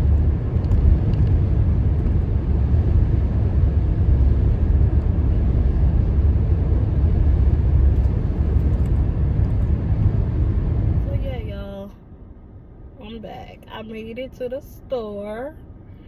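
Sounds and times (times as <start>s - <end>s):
truck cab road and engine rumble: 0.0s - 16.0s.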